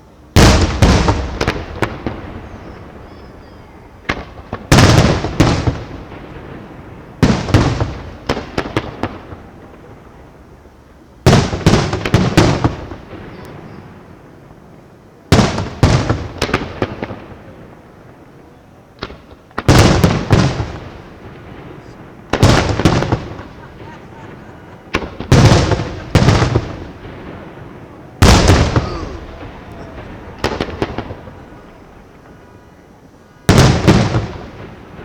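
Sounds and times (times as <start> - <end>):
fireworks bangs and cracks: 0.4 - 10.5, 11.2 - 18.4, 19.0 - 32.7, 33.4 - 35.0.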